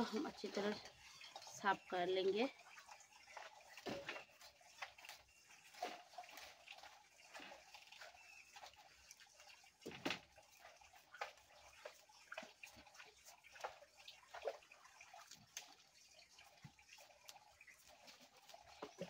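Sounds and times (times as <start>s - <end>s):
water splashing and dripping: 0.0s - 19.0s.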